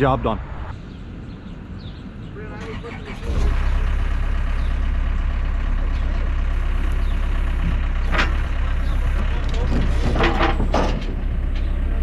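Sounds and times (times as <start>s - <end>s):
vehicle engine idling: 0.8s - 12.0s.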